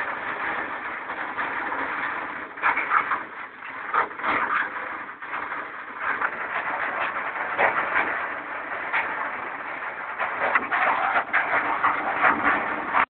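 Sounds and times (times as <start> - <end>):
raindrops tapping on ledge: 0.0 - 13.0
steady rain hiss: 0.0 - 13.0.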